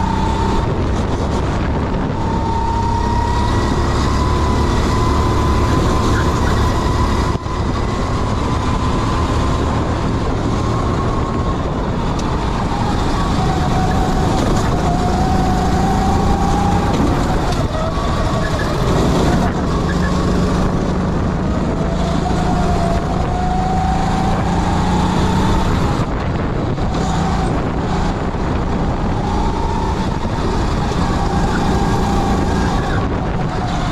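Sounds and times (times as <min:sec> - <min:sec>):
kart engine running hard: 0:00.0 - 0:33.9.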